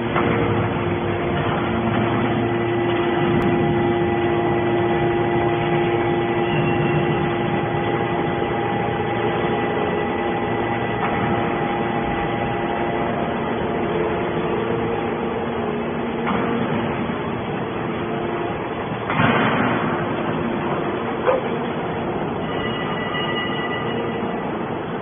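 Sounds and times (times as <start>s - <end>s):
hydraulic machine hum with whine: 0.0s - 25.0s.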